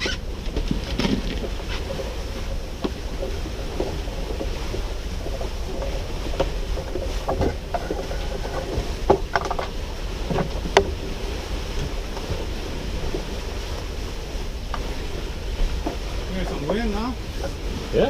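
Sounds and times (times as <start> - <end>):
sharp knocks from boat: 0.0 - 17.9
water washing along hull: 0.0 - 18.0
wind buffeting microphone: 0.0 - 18.0.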